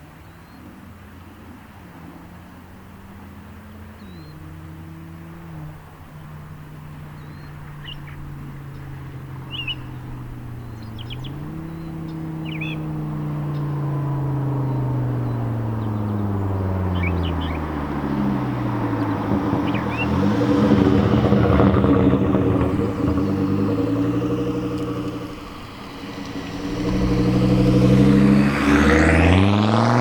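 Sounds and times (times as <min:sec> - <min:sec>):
car engine exhaust: 0:00.0 - 0:30.0
birds chirping faintly: 0:03.5 - 0:29.1.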